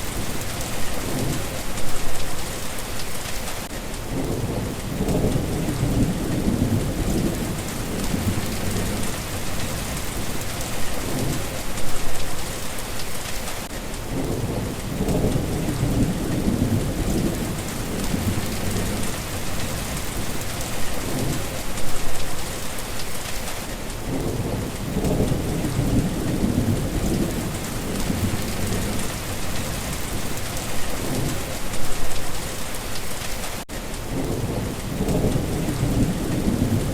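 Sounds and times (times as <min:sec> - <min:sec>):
thunder rumbling: 0:00.0 - 0:12.6, 0:14.1 - 0:23.4, 0:24.0 - 0:33.3, 0:34.0 - 0:36.9
heavy rain: 0:00.0 - 0:36.9.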